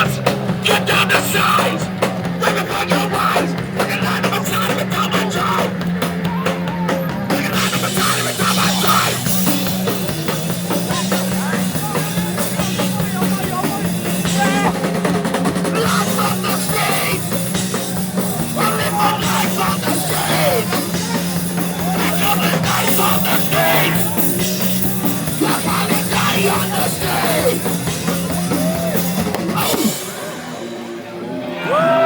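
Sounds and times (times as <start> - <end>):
shouted vocals: 0.0 - 9.8, 10.7 - 15.0, 15.6 - 30.0, 31.4 - 32.0
punk band playing live: 0.0 - 32.0.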